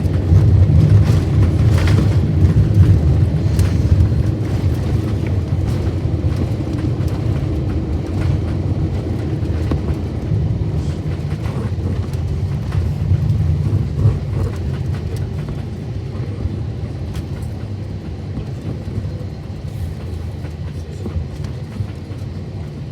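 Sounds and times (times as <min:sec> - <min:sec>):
aircraft cabin rumble: 0:00.0 - 0:22.9.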